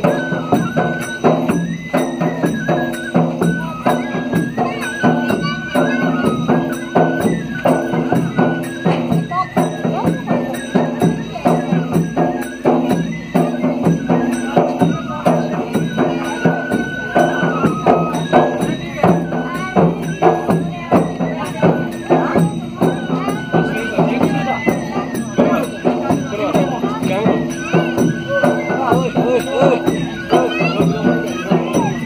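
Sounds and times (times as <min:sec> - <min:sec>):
folk dance melody: 0:00.0 - 0:32.0
steady percussion beat: 0:00.0 - 0:32.0.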